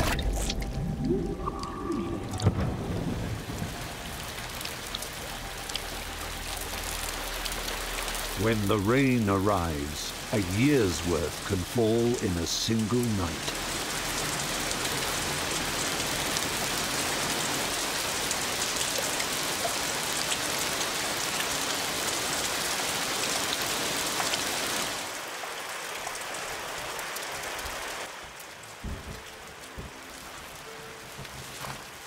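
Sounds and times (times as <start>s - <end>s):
heavy rain on rocks: 0.0s - 32.0s.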